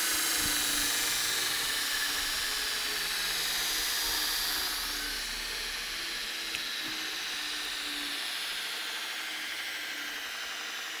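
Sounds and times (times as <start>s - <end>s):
belt grinder hissing: 0.0s - 11.0s.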